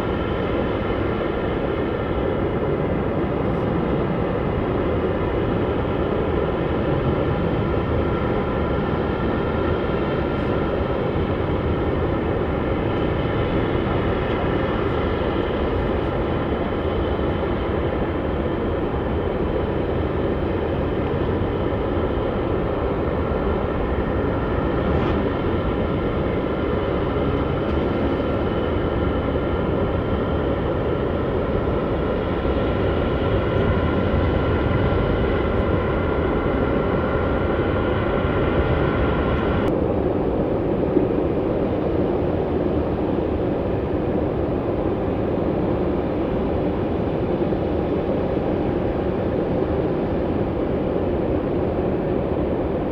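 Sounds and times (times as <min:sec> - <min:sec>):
high steady engine whine: 0:00.0 - 0:52.9
jet engines rumbling: 0:00.0 - 0:52.9.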